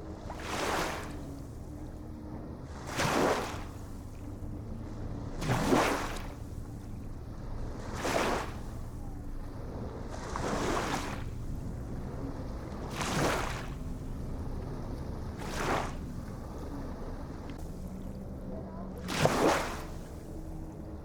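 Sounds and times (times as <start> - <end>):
ocean waves washing in: 2.5 - 21.0.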